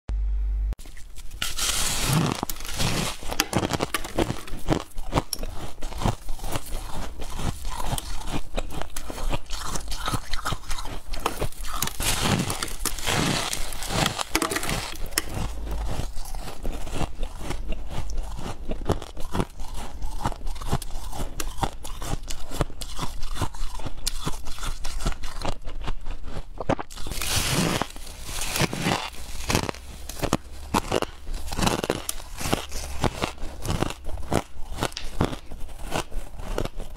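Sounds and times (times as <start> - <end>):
chewing frost crunches: 0.8 - 36.9.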